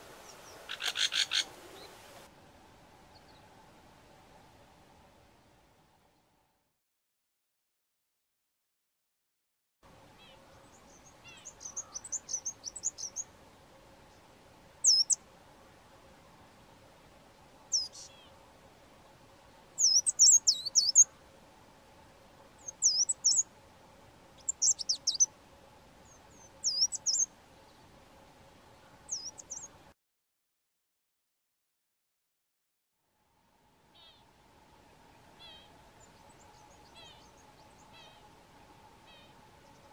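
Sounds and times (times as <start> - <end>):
faint steady hum: 0.0 - 6.7, 9.8 - 29.9, 33.0 - 39.9.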